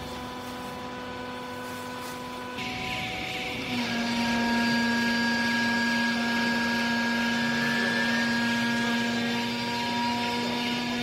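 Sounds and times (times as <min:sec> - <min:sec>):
hydraulic press whine and hiss: 0:00.0 - 0:11.0.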